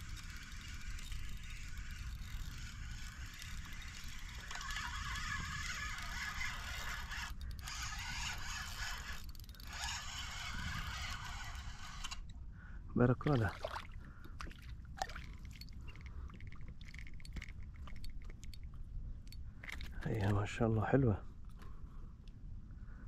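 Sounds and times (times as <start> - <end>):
fishing reel ticking whir: 0.0 - 12.4, 14.2 - 20.4.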